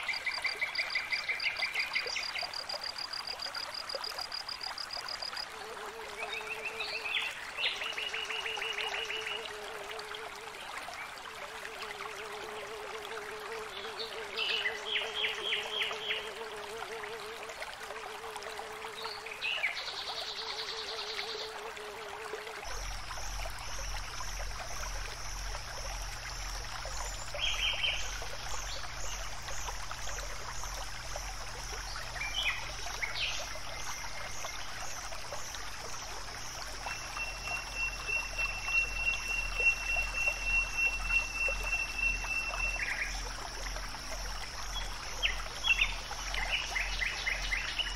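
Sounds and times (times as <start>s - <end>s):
insect trills: 0.0s - 10.6s, 20.2s - 47.9s.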